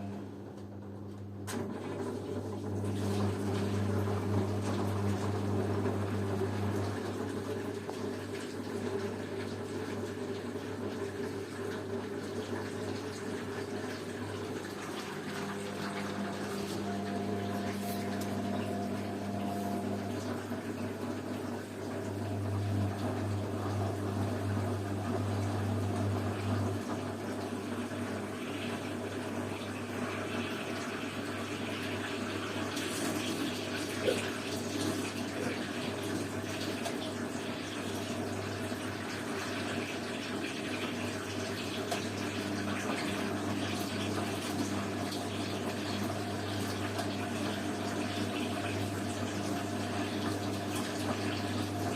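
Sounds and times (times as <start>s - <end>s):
washing machine low hum: 0.0s - 51.9s
water splashing in washing machine: 0.0s - 51.9s.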